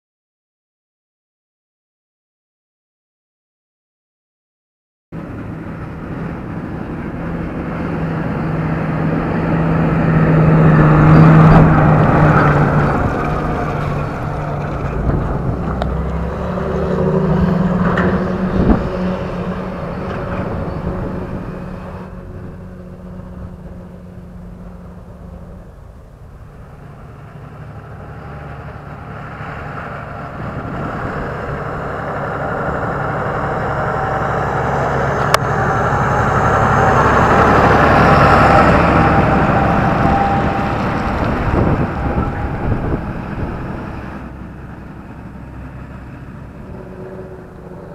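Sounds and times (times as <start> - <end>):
tractor engine: 5.2 - 47.9
tyre noise on road: 5.2 - 47.9.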